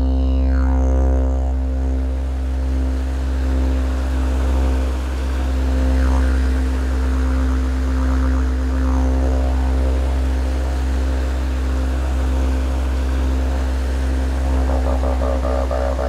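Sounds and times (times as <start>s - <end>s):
didgeridoo drone music: 0.0s - 16.0s.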